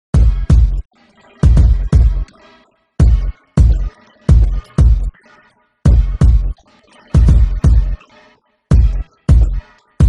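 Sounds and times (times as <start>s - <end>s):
electronic music with heavy bass hits: 0.2s - 10.0s.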